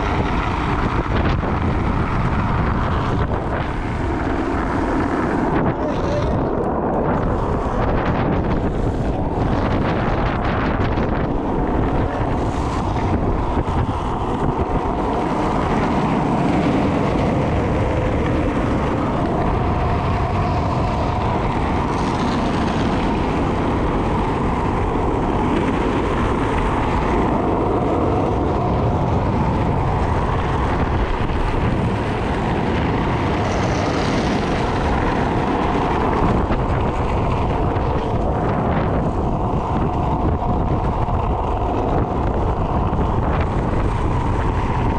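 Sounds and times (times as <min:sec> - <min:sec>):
wheels rolling on asphalt: 0:00.0 - 0:44.9
wind noise on microphone: 0:00.0 - 0:44.9.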